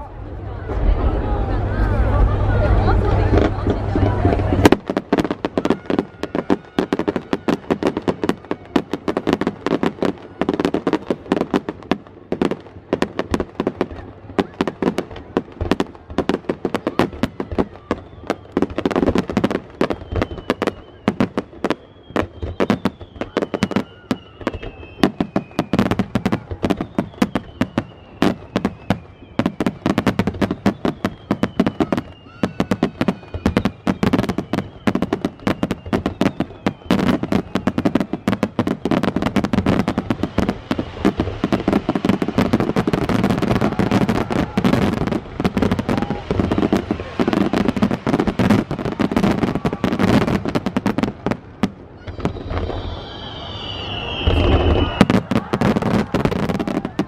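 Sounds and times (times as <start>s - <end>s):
fireworks bursting and crackling: 0.0s - 57.0s
high whistling fireworks: 0.0s - 57.0s.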